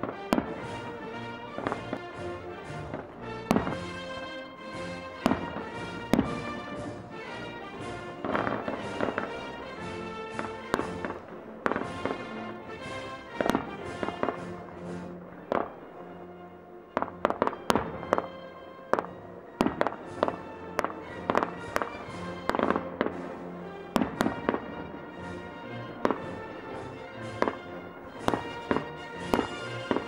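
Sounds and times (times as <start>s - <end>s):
fireworks bursting: 0.0s - 30.0s
music playing: 0.0s - 30.0s.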